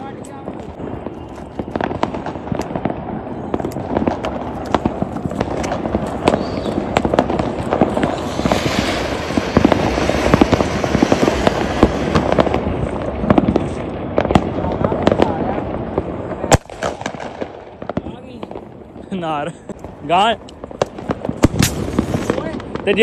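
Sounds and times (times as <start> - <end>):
firecrackers popping: 0.0 - 23.0.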